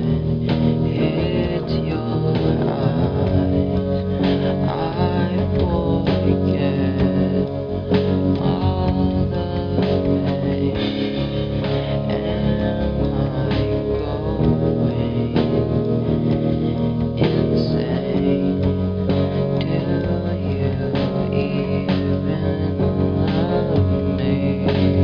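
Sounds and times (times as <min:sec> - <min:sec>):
guitar-led song with steady beat: 0:00.0 - 0:25.0.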